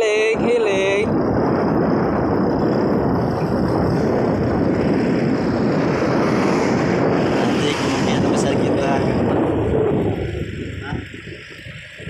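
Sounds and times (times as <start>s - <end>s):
road noise from moving vehicle: 0.0s - 12.0s
wind buffeting microphone: 0.0s - 12.0s.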